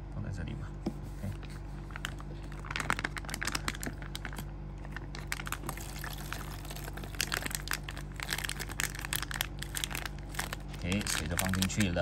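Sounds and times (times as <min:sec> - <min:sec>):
plastic pouch crinkling: 0:01.8 - 0:12.0.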